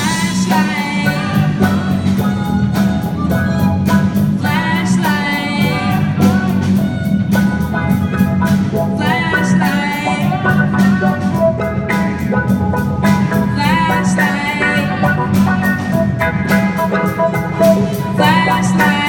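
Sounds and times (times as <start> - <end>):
person singing with vibrato: 0.0 - 12.3, 13.0 - 19.0
accompaniment with steady beat: 0.0 - 19.0.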